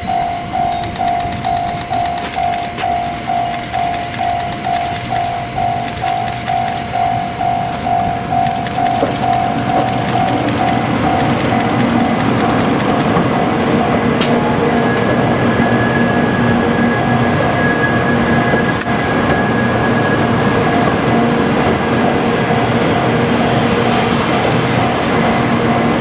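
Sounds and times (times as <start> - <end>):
level crossing alarm: 0.0 - 26.0
train rumbling: 0.0 - 26.0.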